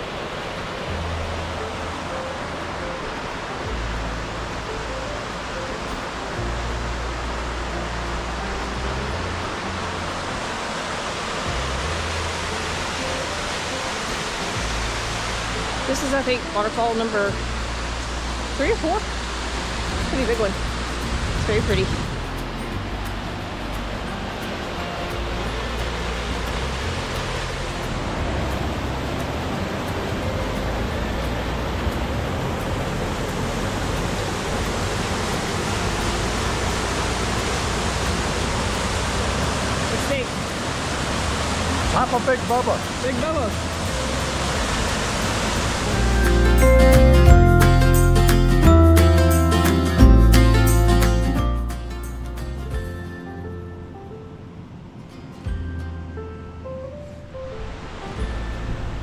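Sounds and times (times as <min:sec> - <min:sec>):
waterfall rushing: 0:00.0 - 0:53.2, 0:57.2 - 0:59.0.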